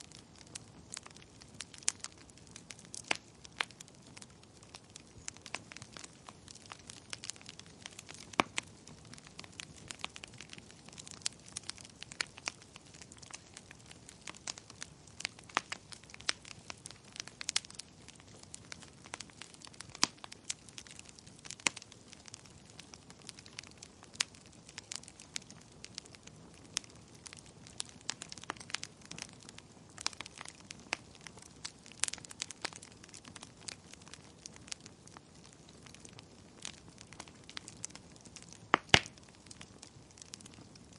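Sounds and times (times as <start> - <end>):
flames rumbling: 0.0 - 40.9
wood fire crackling: 0.0 - 40.9.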